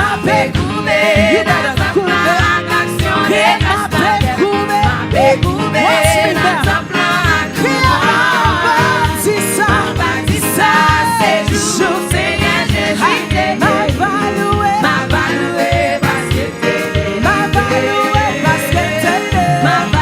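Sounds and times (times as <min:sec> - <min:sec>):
band playing a steady beat: 0:00.0 - 0:20.0
voices singing gospel music: 0:00.0 - 0:20.0.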